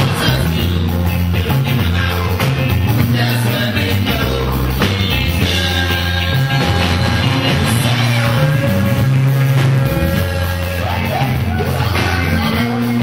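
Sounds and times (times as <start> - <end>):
live rock band playing: 0.0 - 13.0
man singing: 0.0 - 13.0.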